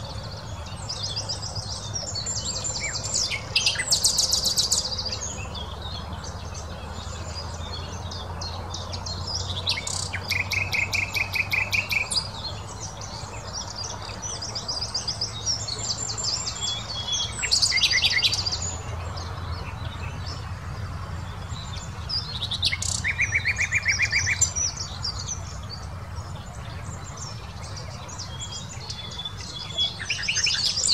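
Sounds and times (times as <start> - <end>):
nightingale singing: 0.0 - 20.4, 21.5 - 30.9.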